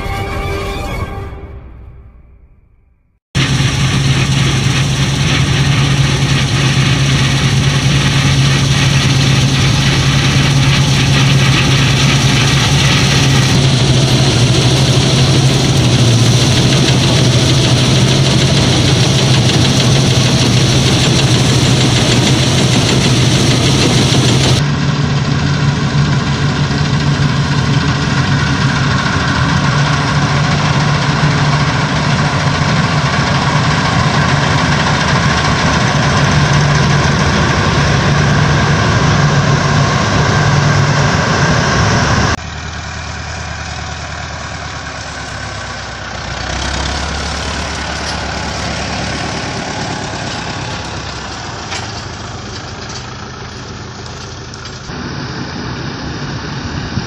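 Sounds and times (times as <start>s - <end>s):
combine harvester machinery drone: 3.4s - 57.0s.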